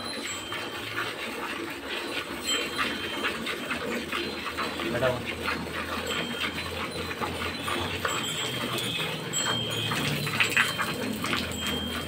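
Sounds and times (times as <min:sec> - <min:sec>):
milk squirting into steel bucket: 0:00.0 - 0:12.0.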